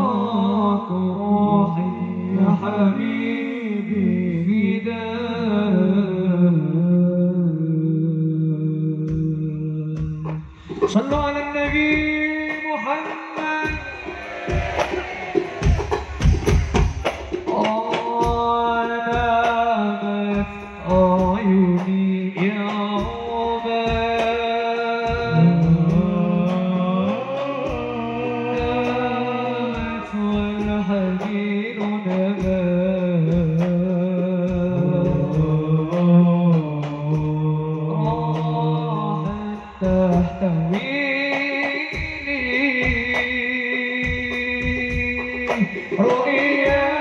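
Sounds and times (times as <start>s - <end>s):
man singing through a pa: 0.0s - 14.9s, 17.5s - 47.0s
hand-drum strokes: 9.1s - 47.0s.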